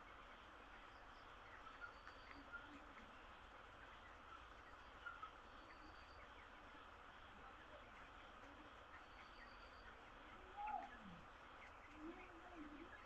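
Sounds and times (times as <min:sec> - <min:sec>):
chicks peeping and cheeping: 0:00.1 - 0:13.0.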